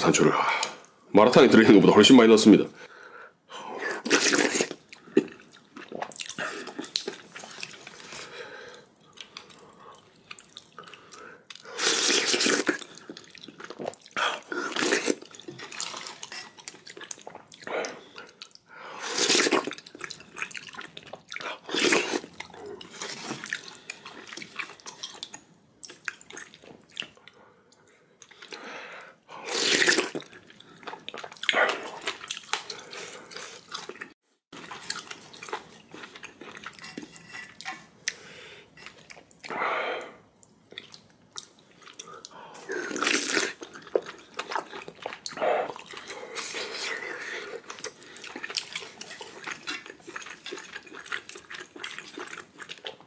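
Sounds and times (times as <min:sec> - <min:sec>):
chewing: 0:04.0 - 0:28.6, 0:29.4 - 0:39.5, 0:40.4 - 0:53.0.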